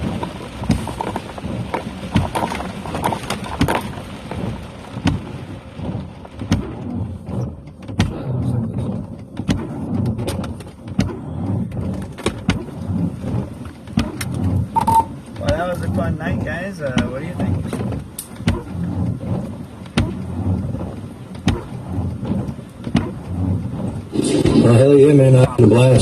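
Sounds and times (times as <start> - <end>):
heavy raindrops tapping: 0.0 - 26.0
low rumble: 0.0 - 26.0
rain on a truck cab: 0.0 - 26.0.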